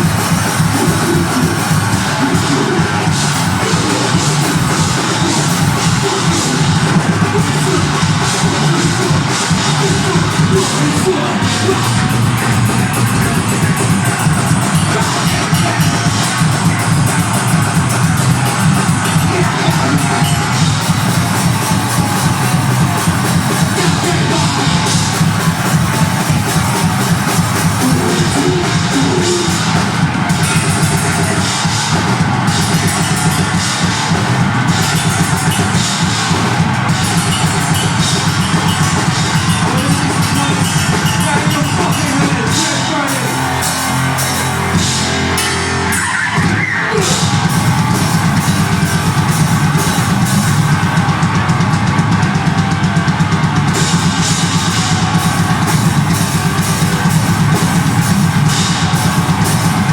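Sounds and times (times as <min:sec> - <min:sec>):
distorted guitar and bass: 0:00.0 - 0:59.9
drum kit: 0:00.0 - 0:59.9
metal band playing live: 0:00.0 - 0:59.9.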